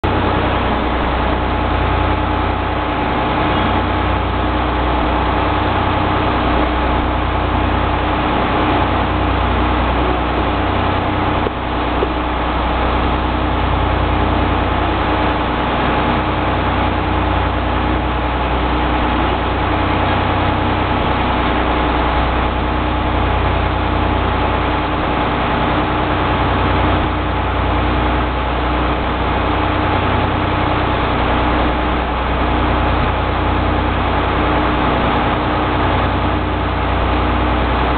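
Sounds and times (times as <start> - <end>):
idling railway equipment hum: 0.0 - 37.9.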